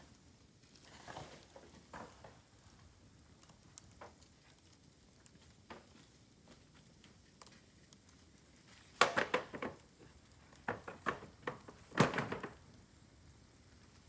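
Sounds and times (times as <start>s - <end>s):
fire crackling with snaps: 0.0s - 14.0s.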